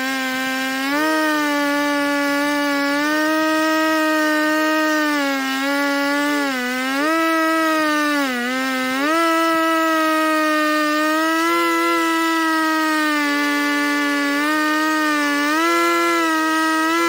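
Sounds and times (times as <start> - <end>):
chainsaw cutting through log: 0.0 - 17.0.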